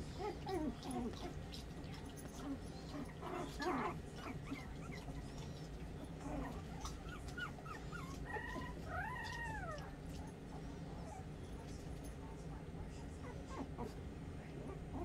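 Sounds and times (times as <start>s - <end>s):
puppies whimpering and squeaking: 0.0s - 11.3s, 13.2s - 14.0s
low steady hum: 0.0s - 15.0s.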